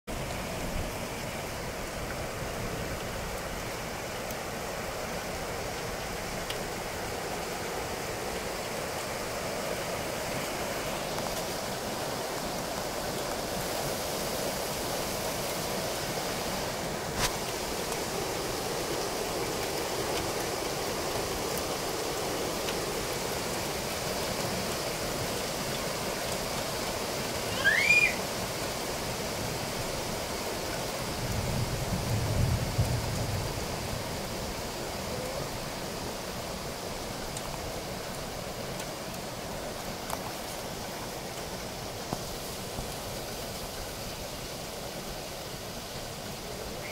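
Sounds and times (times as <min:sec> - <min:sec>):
heavy rain on trees and grass: 0:00.0 - 0:46.9.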